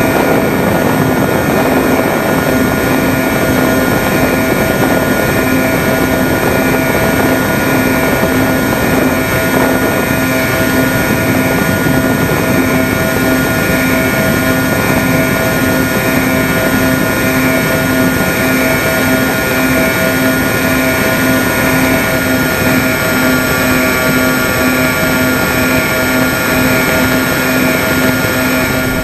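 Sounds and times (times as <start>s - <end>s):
propeller drone: 0.0s - 29.0s
rushing air: 0.0s - 29.0s.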